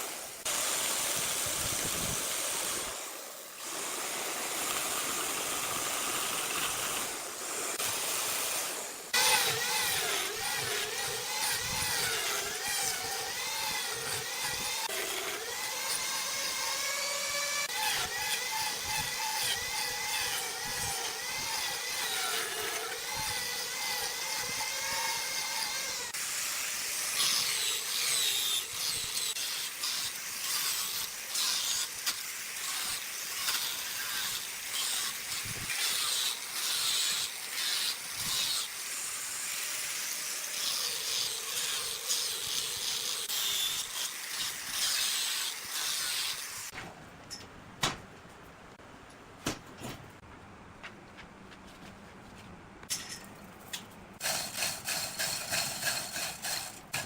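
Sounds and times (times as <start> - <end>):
power tool cutting wood: 0.0 - 46.8, 54.2 - 57.0.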